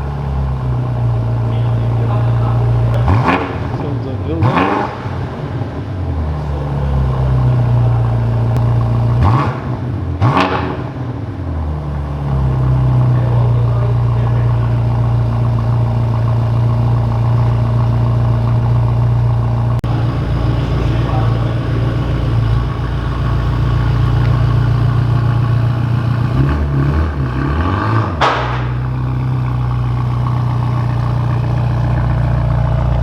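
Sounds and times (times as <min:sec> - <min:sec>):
car exhaust idling and revving: 0:00.0 - 0:33.0.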